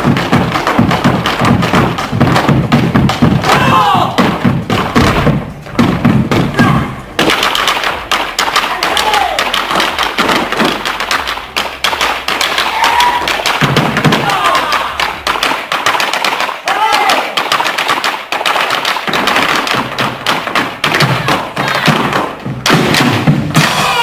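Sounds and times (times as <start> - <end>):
weighted balls clacking on floor: 0.0 - 6.6, 7.2 - 23.6
boots stamping on stage floor: 0.0 - 24.0.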